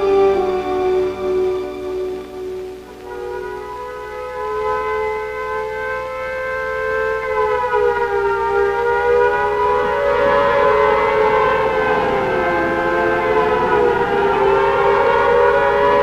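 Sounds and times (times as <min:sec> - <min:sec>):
warning siren: 0:00.0 - 0:16.0.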